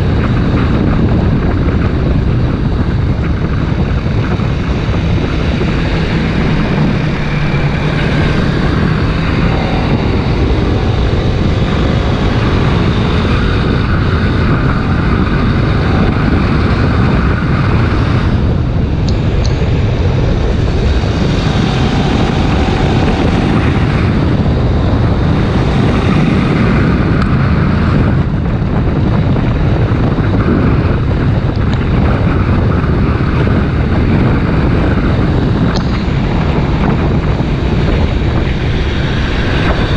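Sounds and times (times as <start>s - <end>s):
heavy wind noise: 0.0s - 39.9s
motorcycle engine running: 0.0s - 39.9s.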